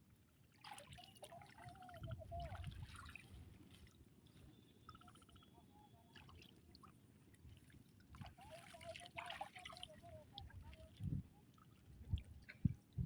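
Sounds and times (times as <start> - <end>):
faint water trickling: 0.0 - 13.0.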